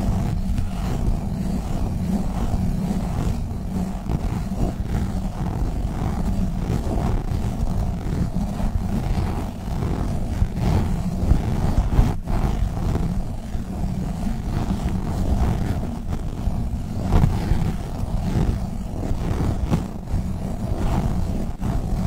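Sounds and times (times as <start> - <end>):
squishy toys rubbed on microphone: 0.0 - 22.0.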